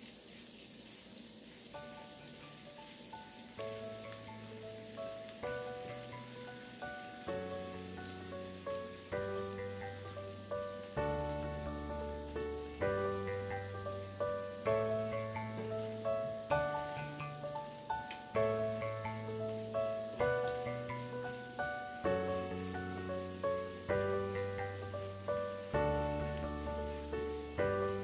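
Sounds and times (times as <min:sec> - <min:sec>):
faint sizzling of frying: 0:00.0 - 0:28.0
background music: 0:01.8 - 0:28.0.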